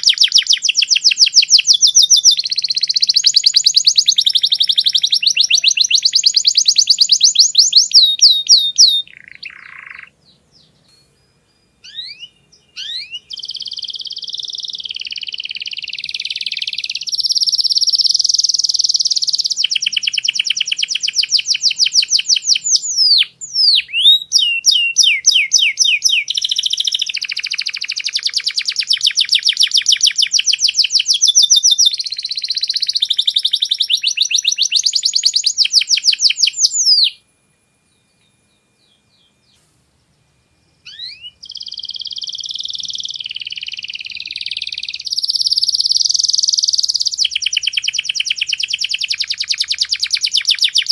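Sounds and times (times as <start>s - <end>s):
canary trilling: 0.0s - 10.9s, 11.5s - 37.2s, 40.8s - 50.9s.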